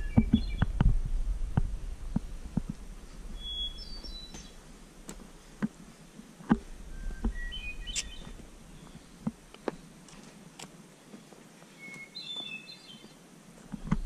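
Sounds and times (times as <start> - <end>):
songbirds calling: 0.0 - 0.8, 3.1 - 14.0.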